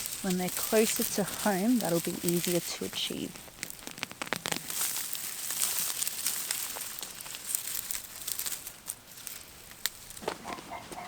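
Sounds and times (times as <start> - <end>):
dry rustling and crackling: 0.0 - 11.0.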